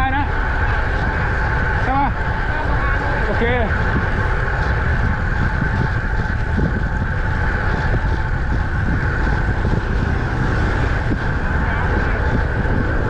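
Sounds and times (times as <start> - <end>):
tyres hissing on road: 0.0 - 13.0
wind buffeting microphone: 0.0 - 13.0.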